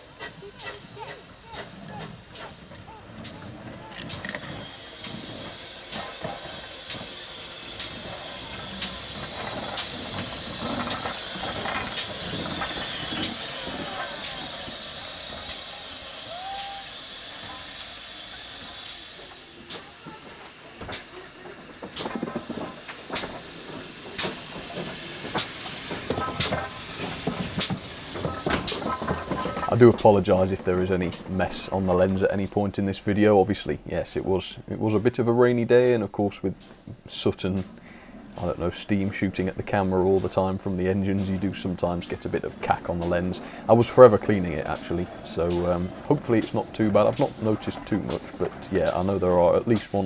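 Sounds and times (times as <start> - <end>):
steam locomotive hissing steam: 0.0 - 50.0.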